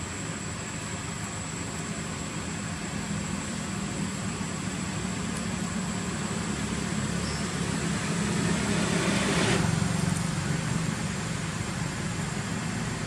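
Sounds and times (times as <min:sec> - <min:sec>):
low engine hum: 0:00.0 - 0:13.0
motor vehicle passing: 0:02.5 - 0:13.0.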